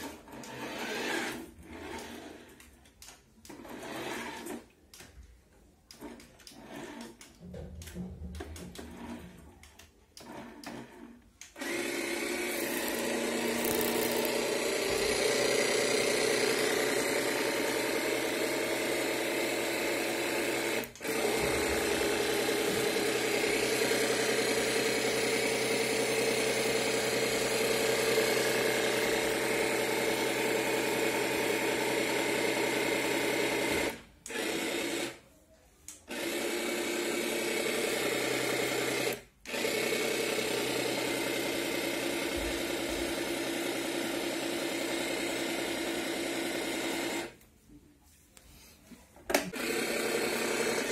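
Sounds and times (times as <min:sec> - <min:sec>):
toy electric motor whining: 0:00.0 - 0:02.8, 0:03.5 - 0:04.7, 0:05.9 - 0:07.4, 0:10.2 - 0:35.2, 0:36.0 - 0:47.4, 0:49.3 - 0:50.9.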